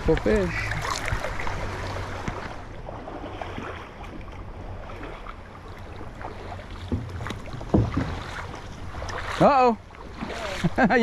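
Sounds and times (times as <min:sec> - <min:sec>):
wind rumbling on microphone: 0:00.0 - 0:10.8
flowing river water: 0:00.0 - 0:11.0.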